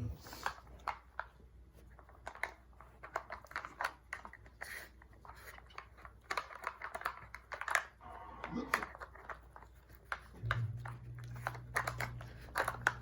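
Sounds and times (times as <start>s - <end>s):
dogs pawing plastic feeder toy: 0.0s - 13.0s.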